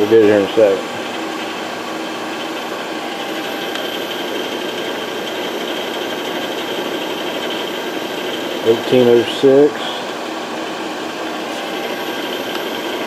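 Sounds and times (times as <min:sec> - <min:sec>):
electric motor humming and whining: 0:00.0 - 0:13.0.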